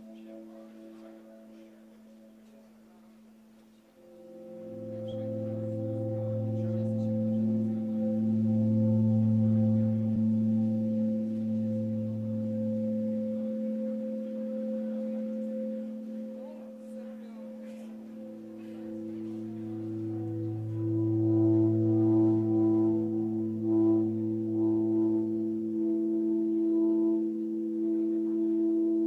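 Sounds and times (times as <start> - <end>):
ambient guitar and keyboard drone: 4.0 - 29.0.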